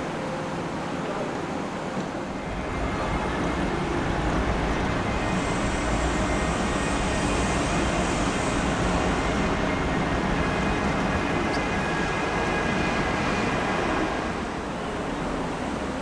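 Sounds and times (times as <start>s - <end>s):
city background rush: 0.0s - 16.0s.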